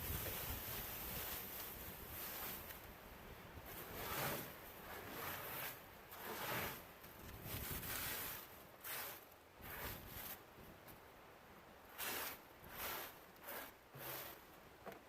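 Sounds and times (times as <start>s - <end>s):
rustling and rubbing noises: 0.0s - 3.0s, 3.6s - 10.9s, 12.0s - 14.5s.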